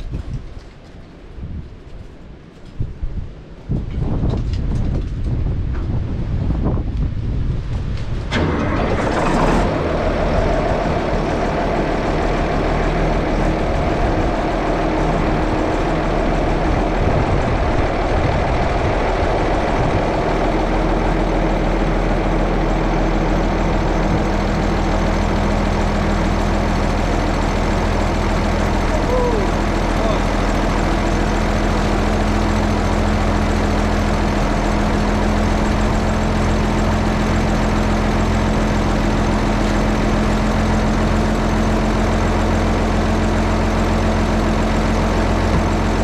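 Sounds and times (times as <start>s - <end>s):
engine starting and idling: 8.0s - 46.0s.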